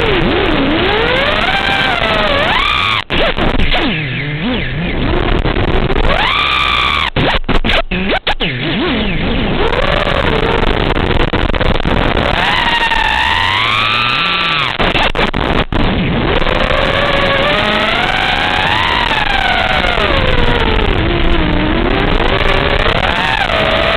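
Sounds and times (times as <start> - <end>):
drone motors whining: 0.0 - 23.9.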